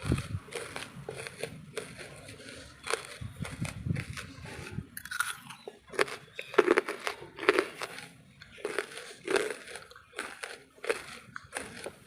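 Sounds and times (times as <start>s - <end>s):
charcoal being chewed with crunches: 0.0s - 12.0s.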